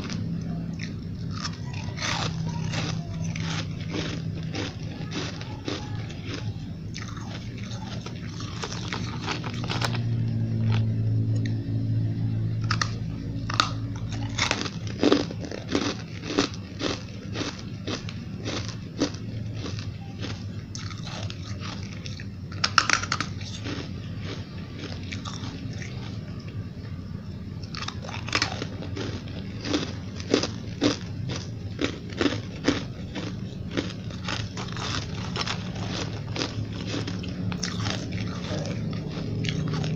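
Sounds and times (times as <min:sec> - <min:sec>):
chewing ice crunches: 0:00.0 - 0:11.5, 0:12.6 - 0:26.5, 0:27.6 - 0:39.9.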